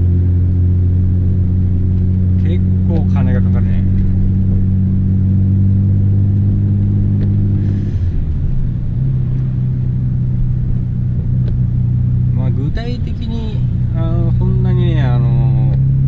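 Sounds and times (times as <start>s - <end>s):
car engine running from inside cabin: 0.0s - 16.0s.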